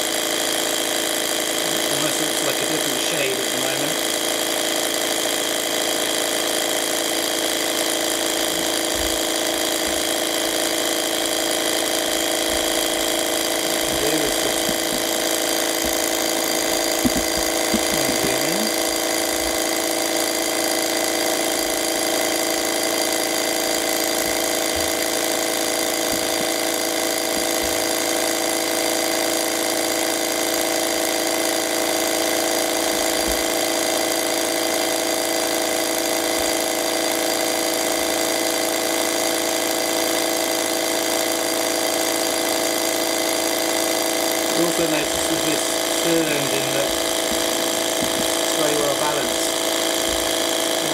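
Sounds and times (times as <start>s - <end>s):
cryocooler motor whine: 0.0s - 50.9s.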